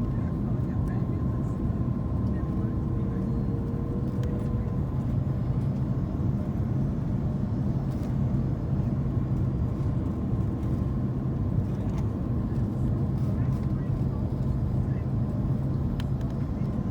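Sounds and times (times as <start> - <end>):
airplane cabin engine rumble: 0.0 - 16.9.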